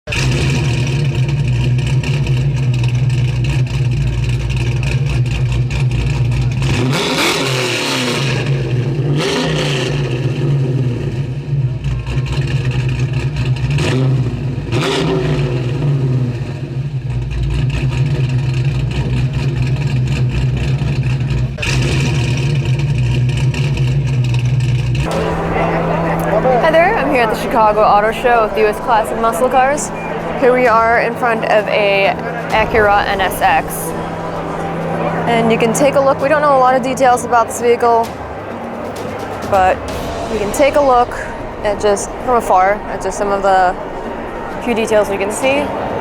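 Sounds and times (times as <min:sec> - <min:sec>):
car engine humming: 0:00.0 - 0:46.0.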